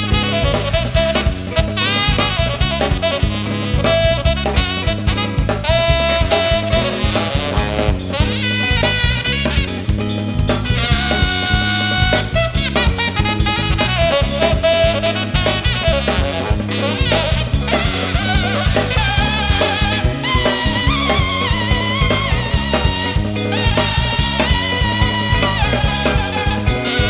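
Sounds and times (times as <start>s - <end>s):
bass line: 0.0s - 27.0s
drum kit groove: 0.0s - 27.0s
saxophone and brass melody: 0.0s - 27.0s.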